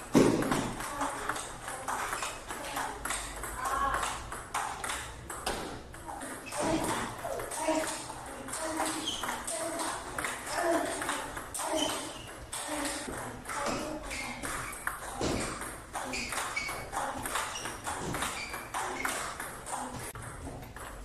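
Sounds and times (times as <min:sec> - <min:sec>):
table tennis ball ticking: 0:00.1 - 0:21.0.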